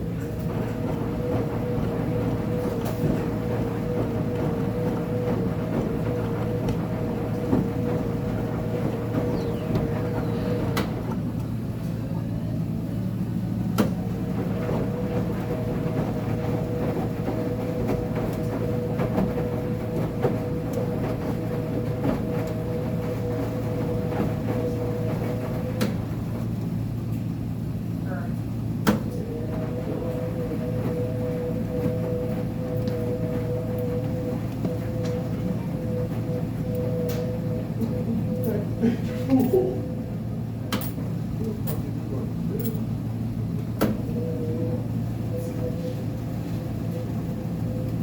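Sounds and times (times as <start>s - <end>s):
washer motor whine: 0.0s - 48.0s
washing machine hum: 0.0s - 48.0s.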